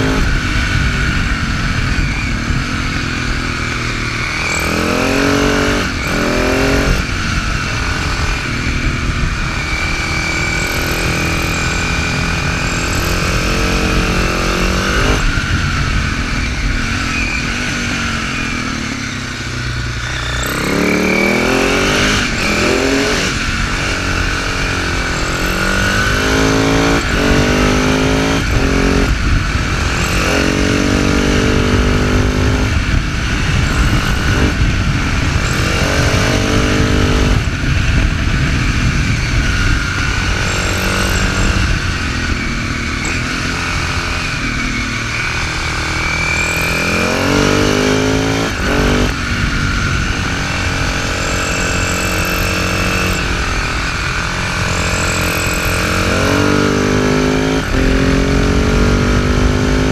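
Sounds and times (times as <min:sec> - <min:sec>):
motorcycle engine revving: 0:00.0 - 0:59.9
wind and road rush: 0:00.0 - 0:59.9.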